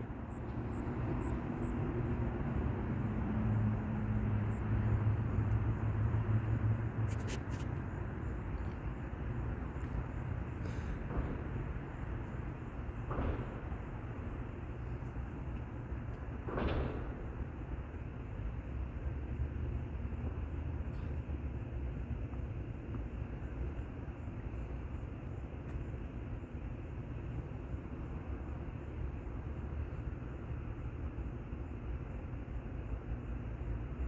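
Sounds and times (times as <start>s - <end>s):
vehicle engine hum: 0.0s - 34.0s.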